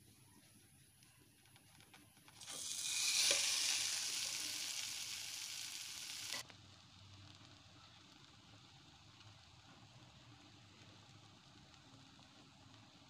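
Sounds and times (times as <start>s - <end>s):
pancake sizzling in hot oil: 2.2s - 13.0s.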